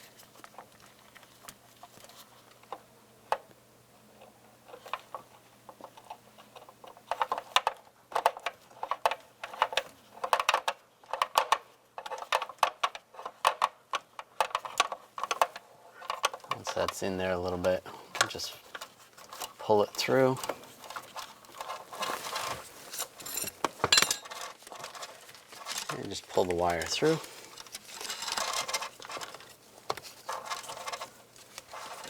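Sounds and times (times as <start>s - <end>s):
wire harness clicking and rustling: 4.7s - 32.0s.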